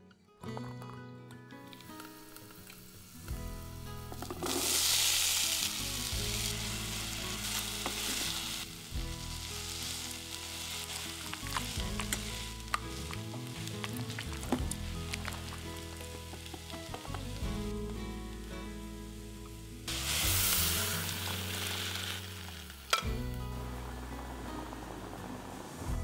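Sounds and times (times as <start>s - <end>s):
chickpeas sizzling in hot oil: 1.7s - 26.0s.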